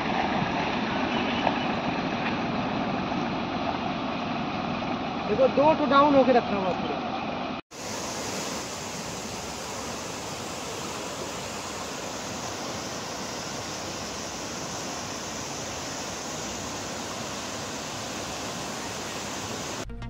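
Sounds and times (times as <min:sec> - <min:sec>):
river rushing past bridge pillars: 0:00.0 - 0:19.8.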